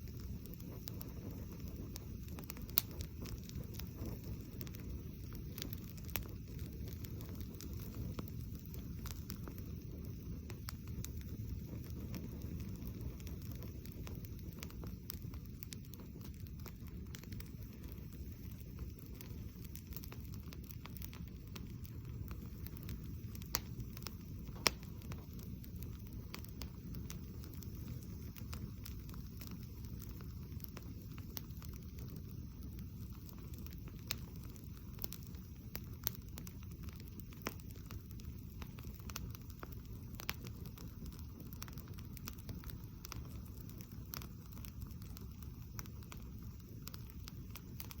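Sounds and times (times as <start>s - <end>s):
campfire crackling and popping: 0.0s - 48.0s
low steady fire rumble: 0.0s - 48.0s.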